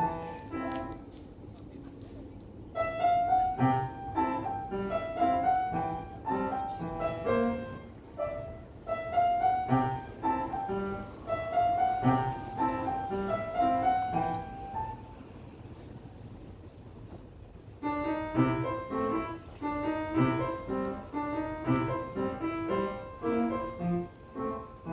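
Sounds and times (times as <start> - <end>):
solo piano melody: 0.0 - 1.6, 2.2 - 24.9.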